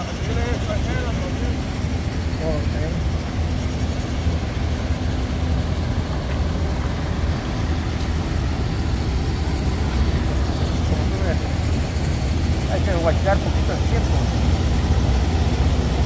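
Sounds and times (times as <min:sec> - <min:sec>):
heavy diesel machinery rumbling: 0:00.0 - 0:16.0.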